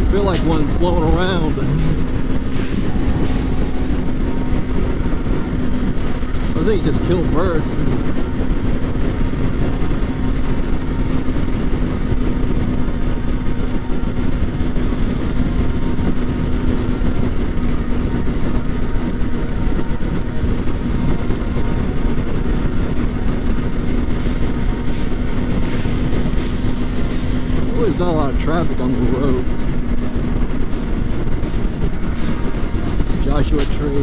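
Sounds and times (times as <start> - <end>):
motorcycle engine cruising: 0.0 - 34.0
wind buffeting microphone: 0.0 - 34.0.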